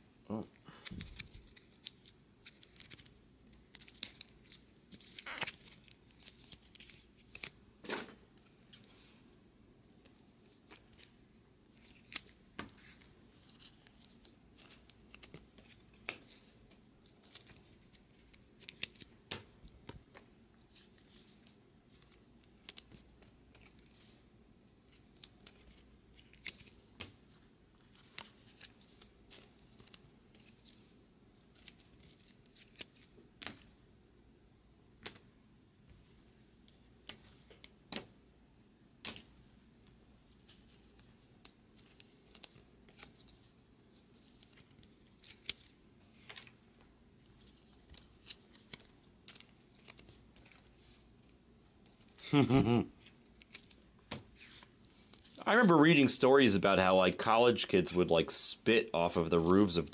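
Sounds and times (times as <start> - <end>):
cards rustling in plastic sleeves: 0.3 - 33.8, 35.9 - 38.1, 39.0 - 59.9.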